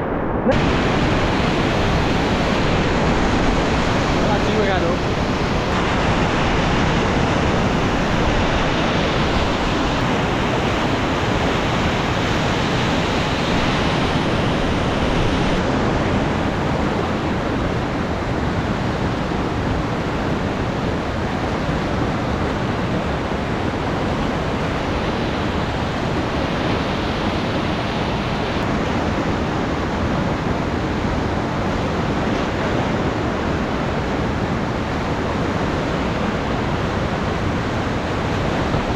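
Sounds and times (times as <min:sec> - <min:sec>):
river water rushing: 0:00.1 - 0:38.9.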